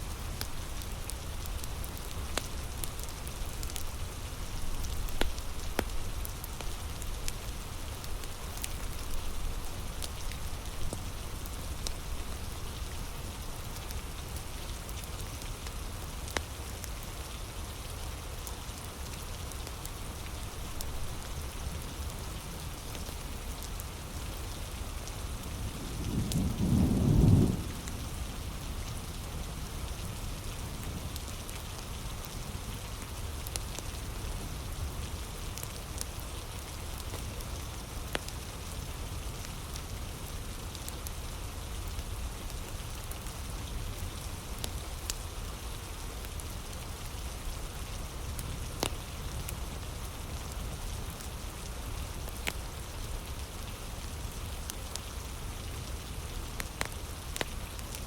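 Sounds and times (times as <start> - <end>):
fire crackling: 0.0 - 58.0
heavy rain: 0.0 - 58.0.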